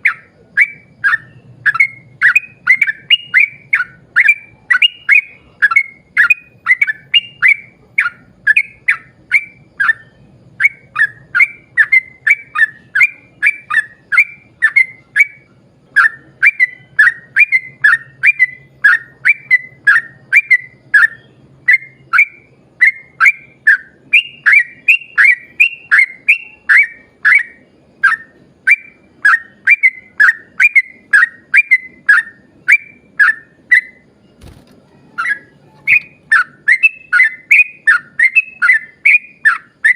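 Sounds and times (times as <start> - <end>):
bird chirping whistles: 0.0 - 39.9.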